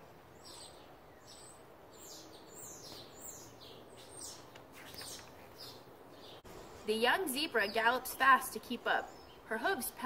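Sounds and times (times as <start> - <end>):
outdoor background noise: 0.0 - 10.0
songbirds chirping: 0.0 - 10.0.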